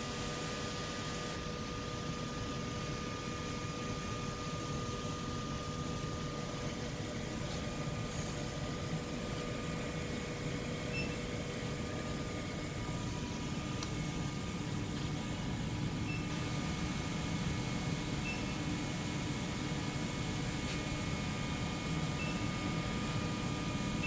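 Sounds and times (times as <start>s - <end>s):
faint steady whines: 0.0s - 24.0s
machinery hum: 0.0s - 24.0s.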